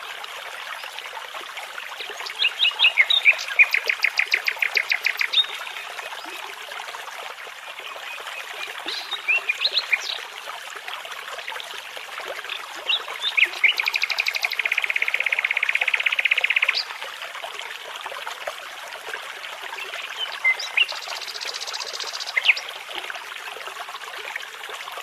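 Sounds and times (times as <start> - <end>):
babbling brook: 0.0 - 25.0.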